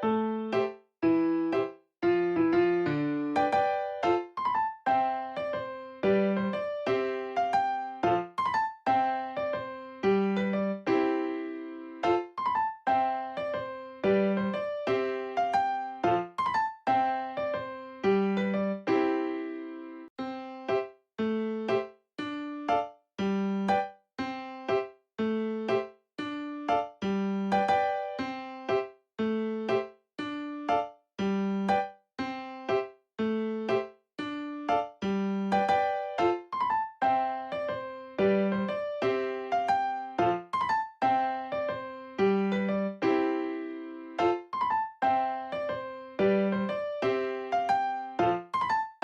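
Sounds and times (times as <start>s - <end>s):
light keyboard melody: 0.0s - 49.0s.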